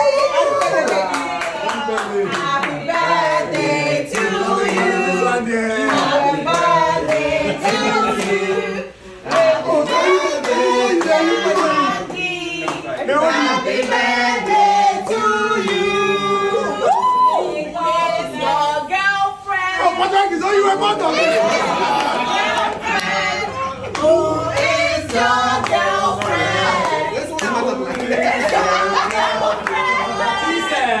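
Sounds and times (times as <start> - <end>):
crowd singing together: 0.0 - 31.0.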